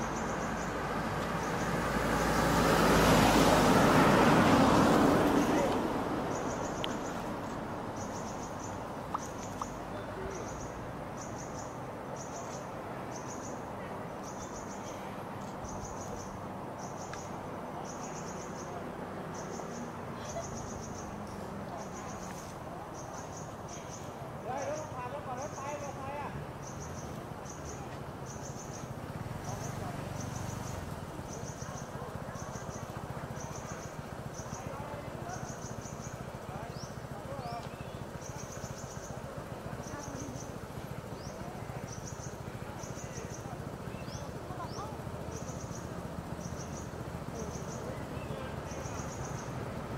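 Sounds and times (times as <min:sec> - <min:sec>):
insects chirping: 0:00.0 - 0:13.6, 0:14.2 - 0:49.9.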